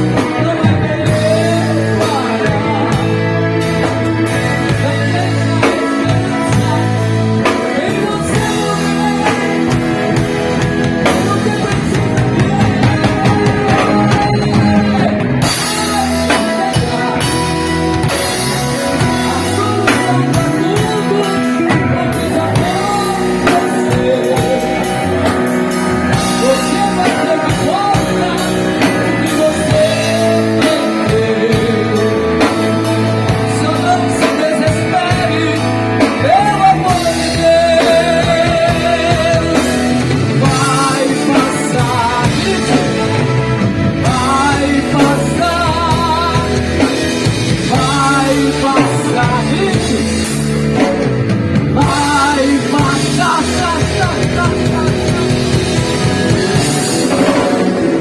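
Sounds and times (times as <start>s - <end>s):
live rock band playing: 0.0s - 58.0s
wavering lead melody: 0.0s - 58.0s.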